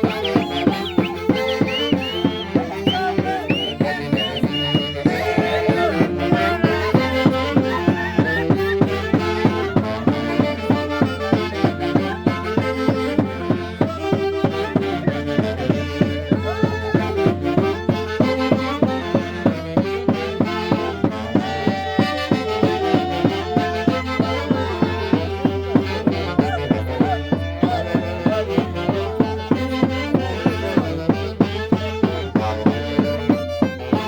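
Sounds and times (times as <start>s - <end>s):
band playing dance music: 0.0s - 34.0s.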